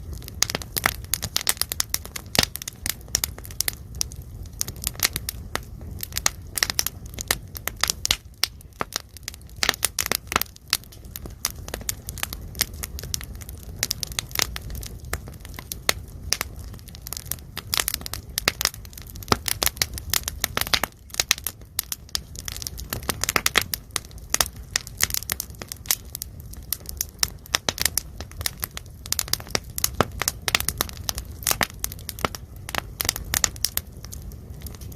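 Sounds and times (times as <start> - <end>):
low rumble of fire: 0.0 - 34.9.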